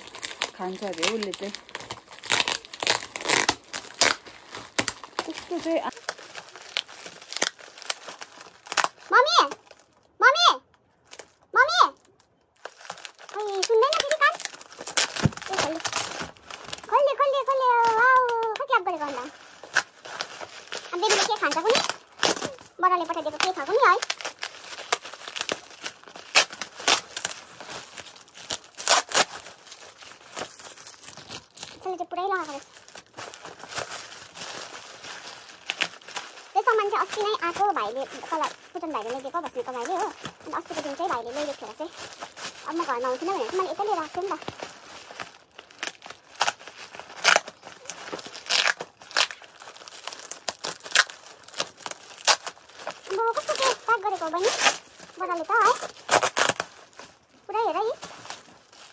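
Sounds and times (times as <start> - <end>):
plastic wrapping crinkling: 0.0 - 58.9.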